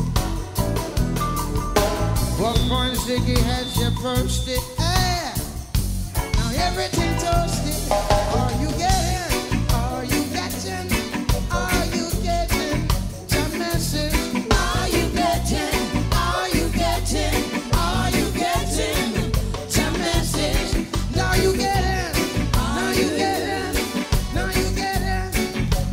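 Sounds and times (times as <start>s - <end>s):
steady bass beat: 0.0s - 25.9s
song with singer: 2.2s - 5.4s, 6.2s - 25.9s.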